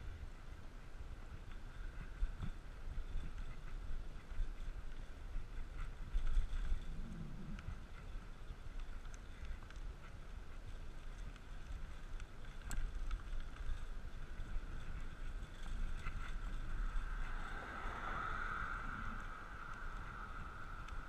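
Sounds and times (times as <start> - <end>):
bicycle tyre road noise: 0.0 - 21.0
wind rumbling on microphone: 0.0 - 21.0
faint clicks: 1.4 - 17.4, 18.3 - 21.0.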